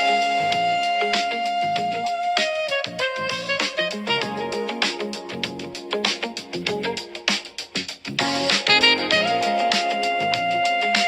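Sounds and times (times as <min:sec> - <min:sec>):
plucked guitar-like melody over beat: 0:00.0 - 0:11.0.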